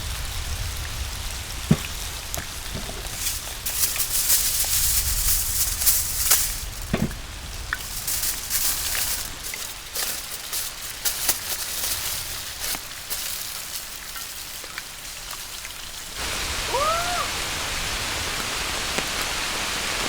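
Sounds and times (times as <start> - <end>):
rain falling: 0.0 - 20.0
sharp taps of raindrops: 0.1 - 16.4.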